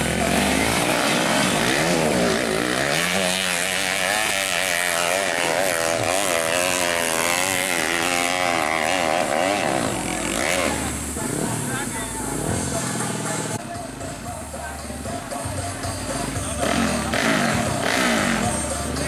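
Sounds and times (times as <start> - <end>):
dirt bike engine revving: 0.0 - 14.2, 16.0 - 19.0.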